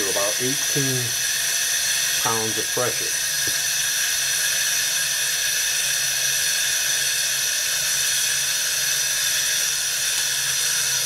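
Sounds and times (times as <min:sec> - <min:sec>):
steam injector hissing: 0:00.0 - 0:11.0.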